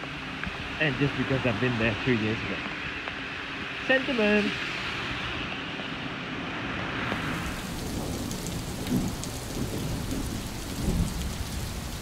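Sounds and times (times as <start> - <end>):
rain falling on pavement: 0.0 - 5.9, 7.1 - 12.0.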